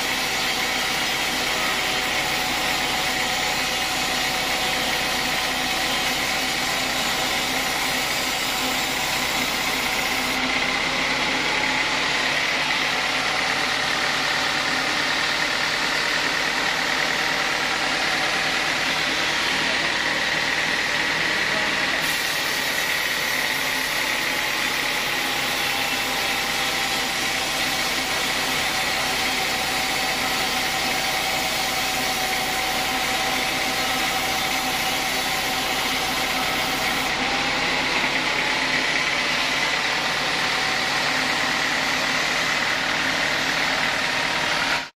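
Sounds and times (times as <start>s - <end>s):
band saw cutting a log: 0.0s - 44.9s.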